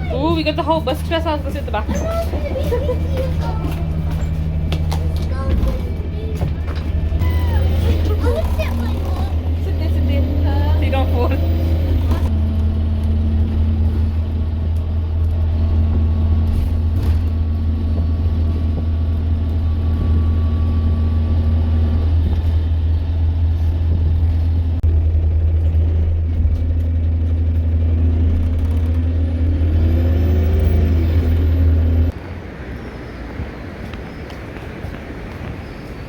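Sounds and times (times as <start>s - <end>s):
bus engine droning: 0.0s - 36.0s.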